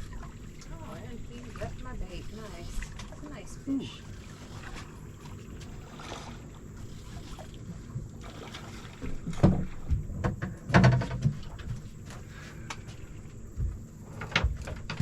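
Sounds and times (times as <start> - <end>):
boat rumble: 0.0 - 15.0.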